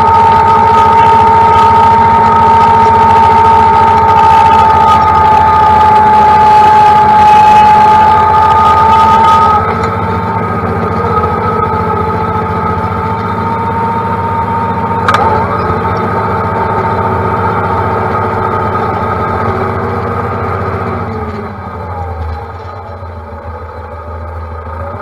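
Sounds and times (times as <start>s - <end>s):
high whine: 0.0s - 25.0s
tractor diesel engine running: 0.0s - 25.0s.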